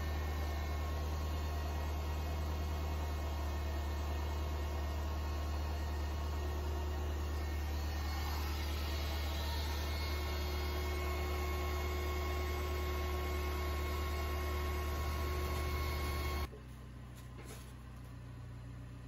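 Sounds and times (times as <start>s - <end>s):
electric air pump humming: 0.0s - 16.5s.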